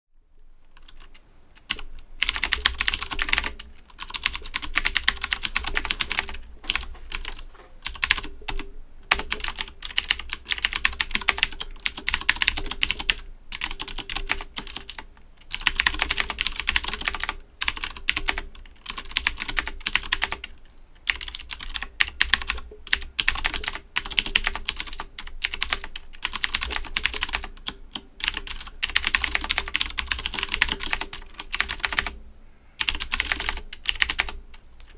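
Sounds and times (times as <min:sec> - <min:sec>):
clicky mechanical keyboard typing: 0:00.7 - 0:32.2, 0:32.8 - 0:34.9.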